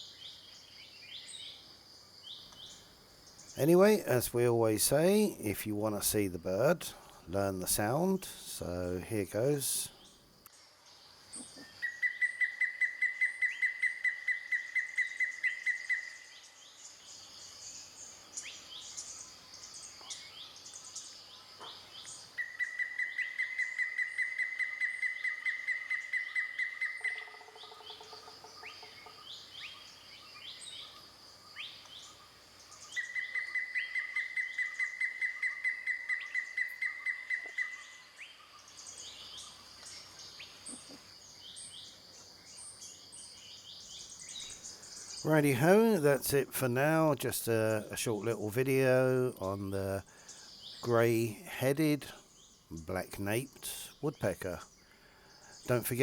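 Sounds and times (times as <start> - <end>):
insects buzzing: 0.0 - 12.2, 16.2 - 23.8, 26.8 - 36.9, 37.8 - 56.0
small birds chirping: 0.0 - 12.6, 14.6 - 23.8, 24.4 - 56.0.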